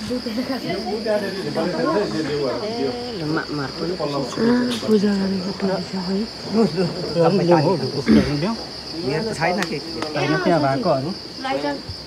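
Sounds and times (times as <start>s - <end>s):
people talking: 0.0s - 11.9s
high-pitched insect drone: 0.0s - 12.0s.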